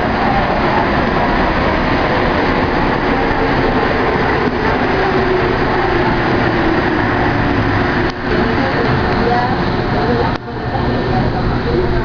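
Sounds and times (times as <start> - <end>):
metro train running in tunnel: 0.0 - 12.0.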